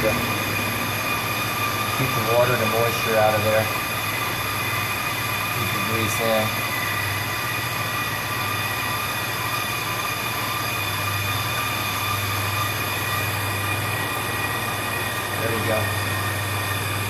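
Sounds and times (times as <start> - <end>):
brake lathe hum with high tones: 0.0 - 17.0.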